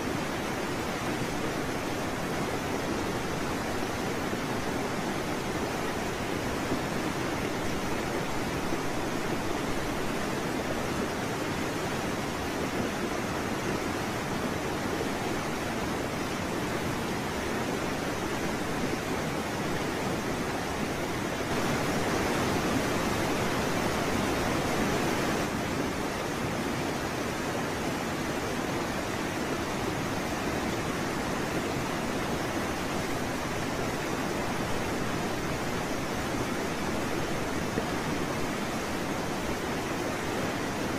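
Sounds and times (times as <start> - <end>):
steady rushing hiss: 0.0 - 40.9.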